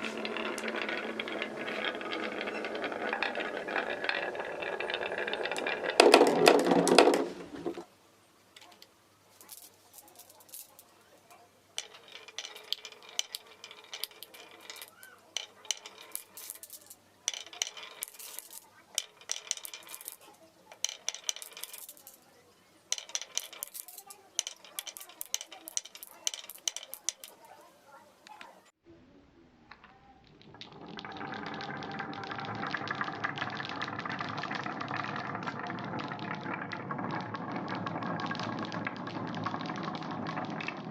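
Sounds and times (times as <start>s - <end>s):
marbles rolling down wooden run: 0.0s - 7.9s, 8.6s - 28.6s, 29.7s - 40.9s.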